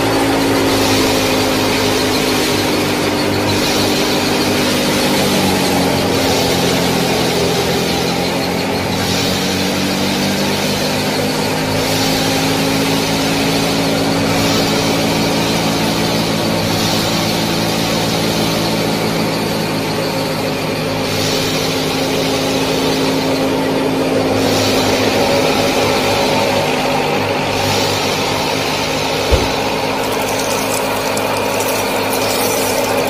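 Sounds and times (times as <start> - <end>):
small motors droning: 0.0 - 33.0.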